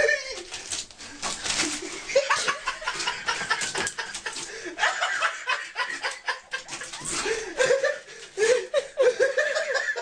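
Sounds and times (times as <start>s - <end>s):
person chuckling: 0.0s - 0.5s, 1.6s - 10.0s.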